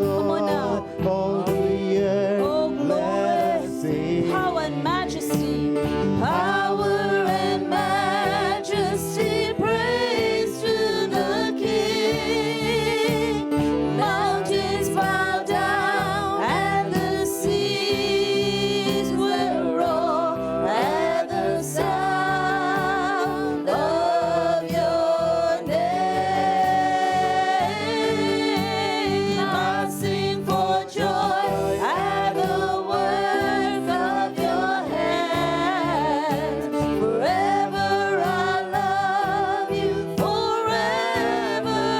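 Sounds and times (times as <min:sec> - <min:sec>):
sustained keyboard chords: 0:00.0 - 0:41.9.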